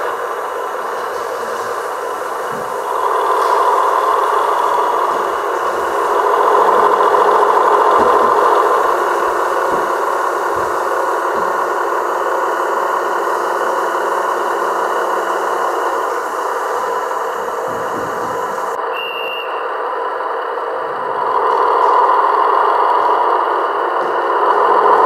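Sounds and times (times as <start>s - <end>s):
model locomotive diesel engine sound: 0.0s - 25.0s.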